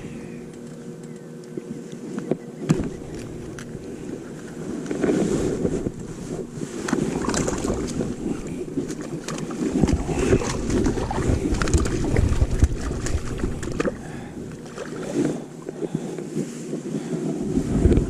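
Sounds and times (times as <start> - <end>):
wind rumbling on microphone: 1.5 - 18.0.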